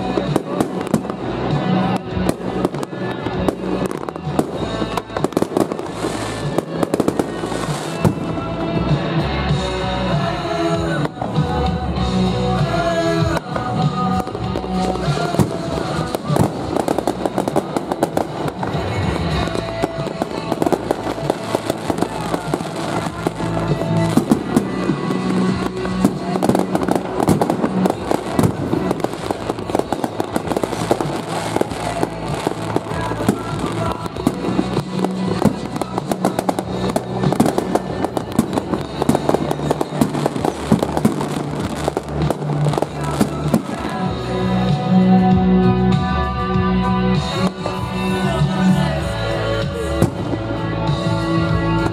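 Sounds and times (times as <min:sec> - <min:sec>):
firework shells bursting and crackling: 0:00.0 - 0:09.7, 0:12.6 - 0:44.9
music playing: 0:00.0 - 0:51.9.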